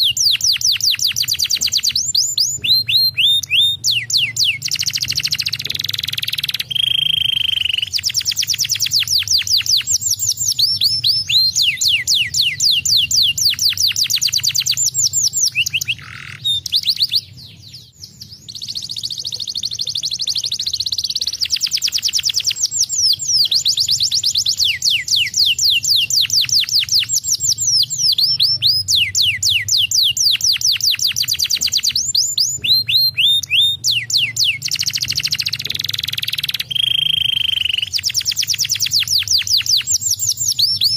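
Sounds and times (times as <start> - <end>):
canary trilling song: 0.0 - 40.9.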